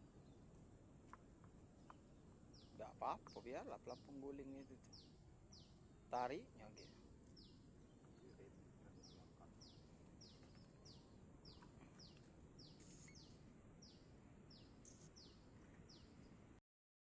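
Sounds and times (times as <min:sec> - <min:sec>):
steady high hiss: 0:00.0 - 0:16.6
bird chirping: 0:01.1 - 0:16.6.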